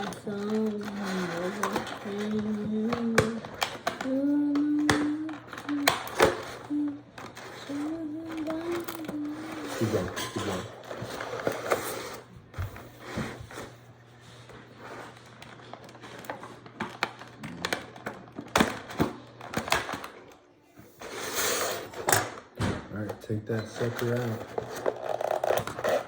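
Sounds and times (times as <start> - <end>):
plastic packaging clicks and crinkles: 0.0 - 12.2, 14.4 - 20.4, 22.0 - 26.0
steady low hum: 0.0 - 25.8.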